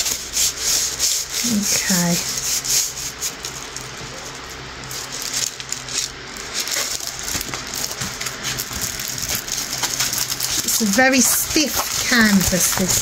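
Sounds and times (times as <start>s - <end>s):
plastic-coated canvas crackling: 0.0s - 13.0s.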